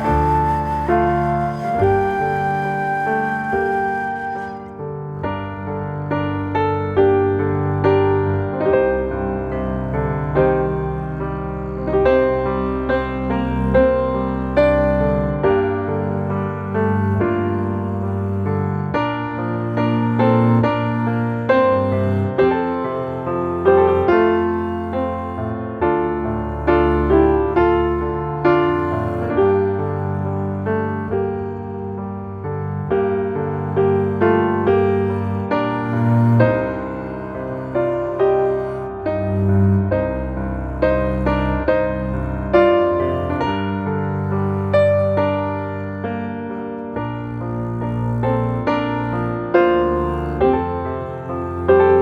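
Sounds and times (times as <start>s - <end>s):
slow piano music: 0.0s - 52.0s.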